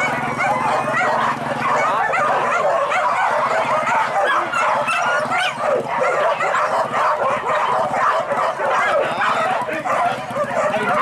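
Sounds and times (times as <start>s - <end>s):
dogs yelping and baying: 0.0s - 11.0s.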